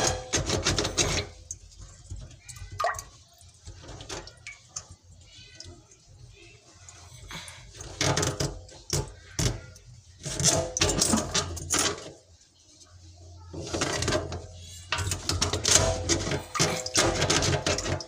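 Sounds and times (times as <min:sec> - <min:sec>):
drain snake scraping and rattling: 0:00.0 - 0:05.3, 0:06.8 - 0:12.6, 0:13.5 - 0:18.0.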